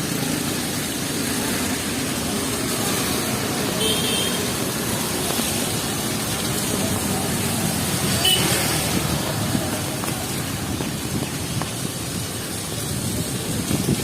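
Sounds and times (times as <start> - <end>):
heavy rain hissing: 0.0 - 14.0
passing traffic: 0.0 - 14.0.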